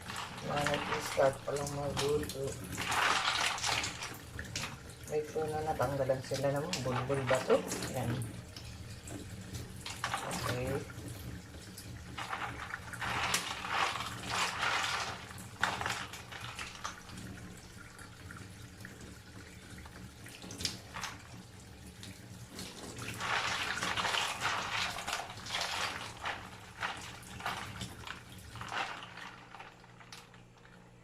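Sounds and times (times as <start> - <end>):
tap water running: 0.0 - 31.0.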